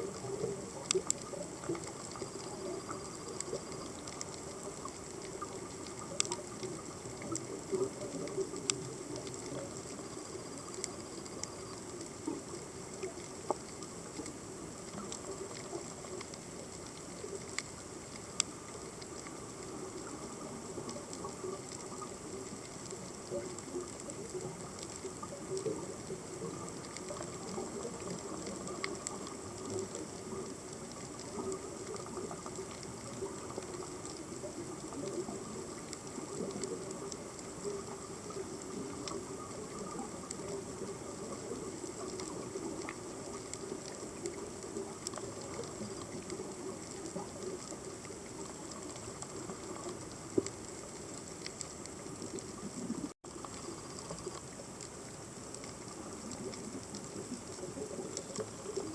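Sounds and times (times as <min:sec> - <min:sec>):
underwater crackle: 0:00.0 - 0:58.9.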